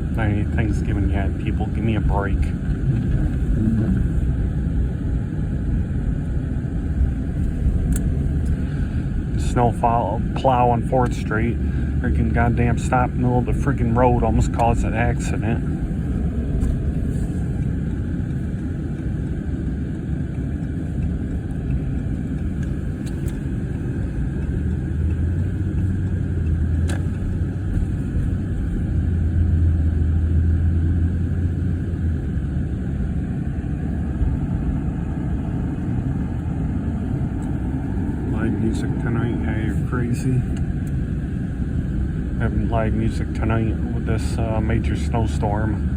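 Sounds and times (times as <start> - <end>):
car engine rumble: 0.0 - 45.9
road noise: 0.0 - 45.9.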